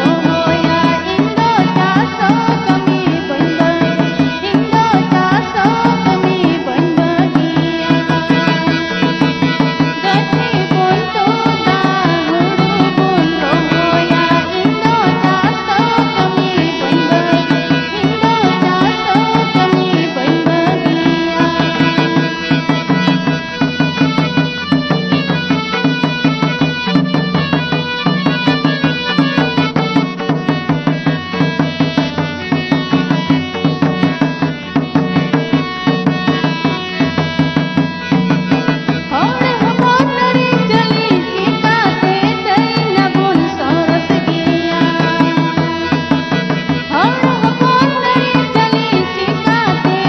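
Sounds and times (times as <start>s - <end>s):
wavering melodic line: 0.0s - 49.7s
drums beating fast rhythm: 0.0s - 50.0s
sustained melody: 0.0s - 50.0s.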